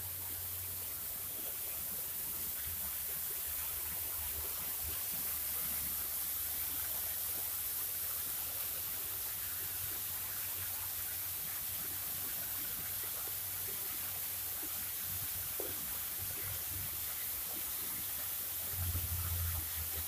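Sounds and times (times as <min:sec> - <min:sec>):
river flowing: 0:00.0 - 0:20.0.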